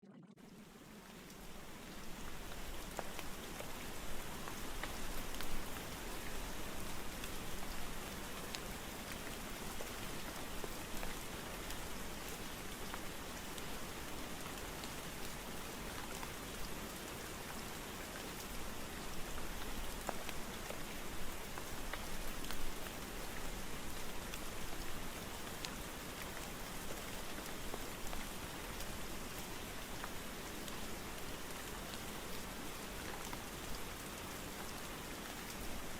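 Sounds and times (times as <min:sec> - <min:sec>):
steady rain falling: 0:00.3 - 0:35.9.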